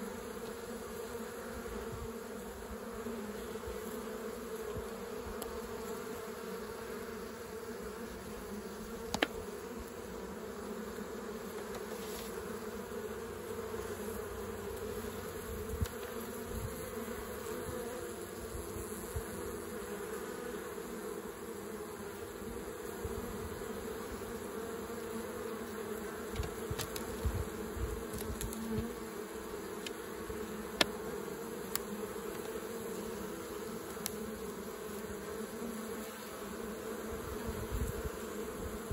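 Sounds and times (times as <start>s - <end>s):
honey bees buzzing: 0.0s - 38.9s.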